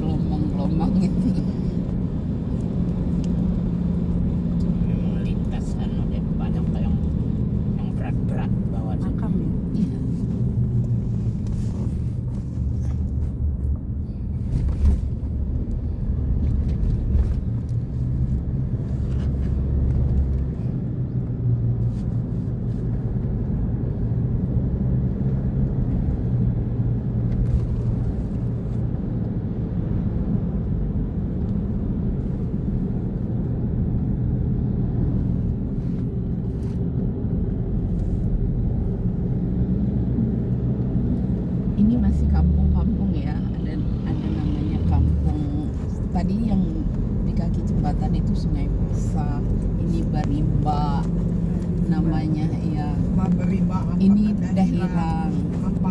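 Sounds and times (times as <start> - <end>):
car engine and tyre drone: 0.0 - 55.9.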